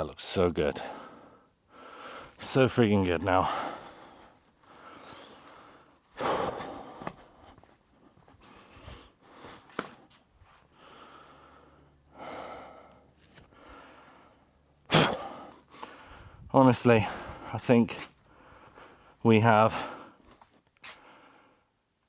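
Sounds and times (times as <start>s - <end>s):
man breathing: 0.7s - 2.4s, 3.1s - 21.8s.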